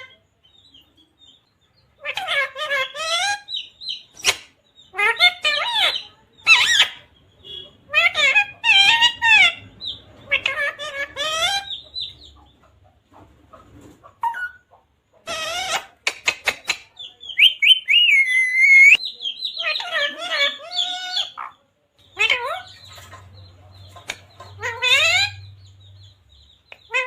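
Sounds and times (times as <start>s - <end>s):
parrot chirping and calling: 0.0s - 0.9s, 1.9s - 12.6s, 14.2s - 27.0s.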